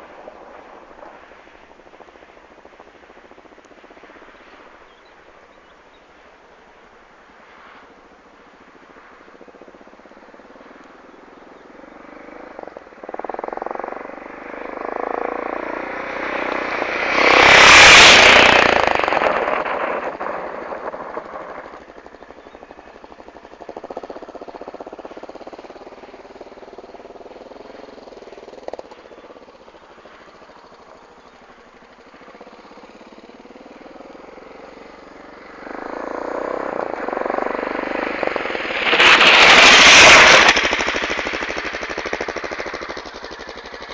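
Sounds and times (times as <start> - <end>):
motorcycle passing by: 0.0 - 43.9.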